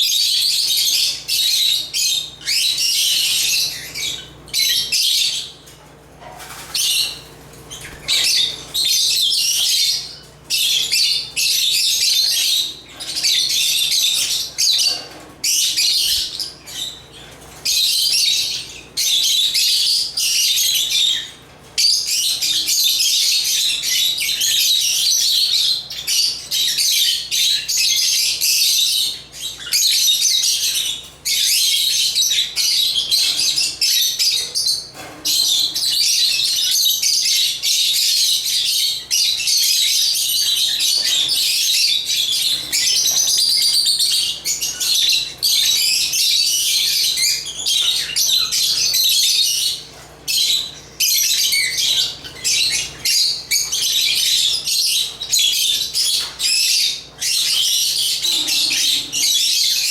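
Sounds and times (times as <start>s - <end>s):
lovebirds chirping: 0.0s - 5.7s, 6.4s - 59.9s.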